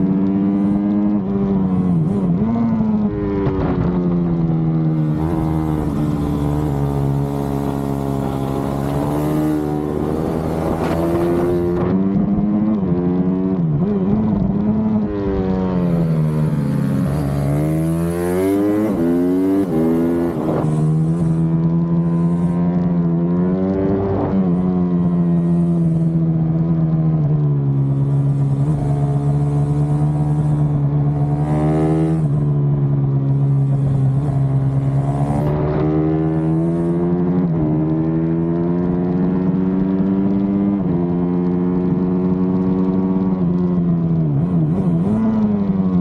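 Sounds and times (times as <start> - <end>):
motorcycle engine revving: 0.0 - 46.0
wind noise: 0.0 - 46.0.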